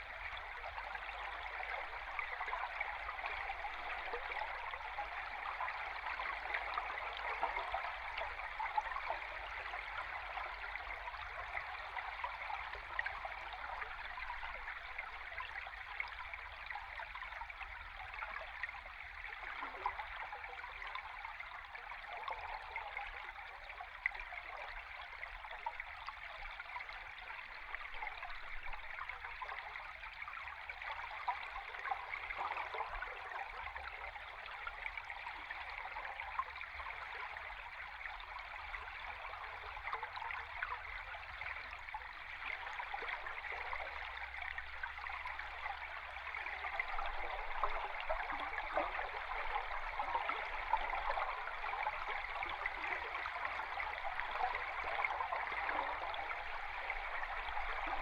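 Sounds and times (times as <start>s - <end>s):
stream heard underwater: 0.0s - 58.0s.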